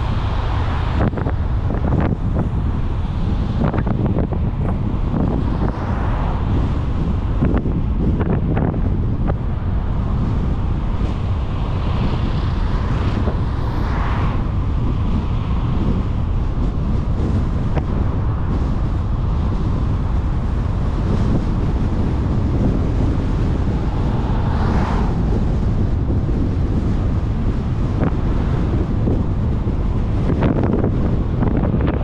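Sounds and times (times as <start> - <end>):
oncoming car passing: 0.0 - 16.9, 17.5 - 31.9
car road noise: 0.0 - 32.0
wind rumble on microphone: 0.0 - 32.0.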